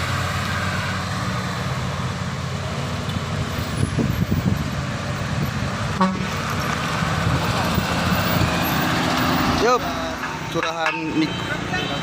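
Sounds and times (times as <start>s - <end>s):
road and traffic noise: 0.0s - 12.0s
truck diesel engine under load: 0.0s - 12.0s.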